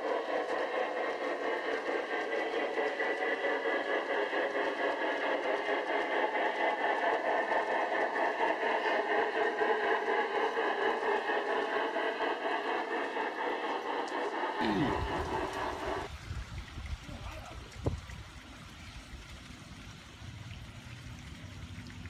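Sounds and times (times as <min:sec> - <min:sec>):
model train wheels on rails: 0:00.0 - 0:22.0.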